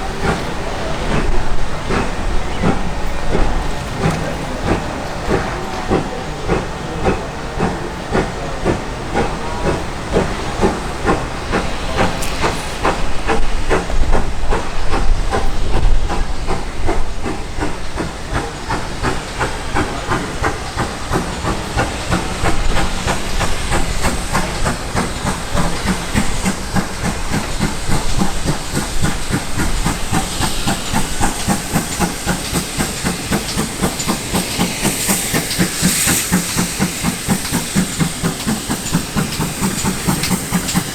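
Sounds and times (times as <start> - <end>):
steam hiss: 0.0 - 40.9
steam locomotive chuffing: 0.0 - 40.9.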